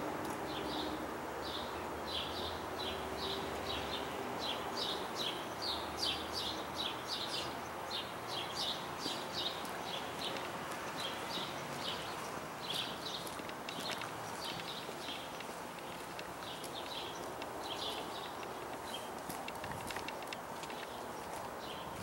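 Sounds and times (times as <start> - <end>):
outdoor background noise: 0.0 - 22.0
small birds chirping: 0.4 - 22.0.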